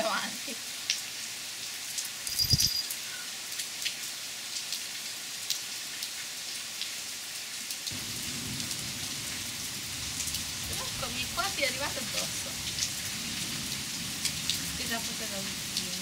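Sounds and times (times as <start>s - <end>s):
rain falling into water: 0.0s - 16.0s.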